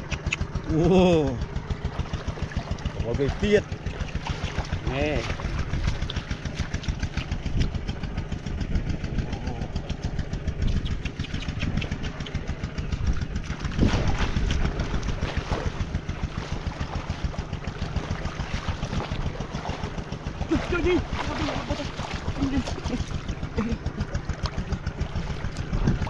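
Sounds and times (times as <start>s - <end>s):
small engine chugging: 0.0s - 26.0s.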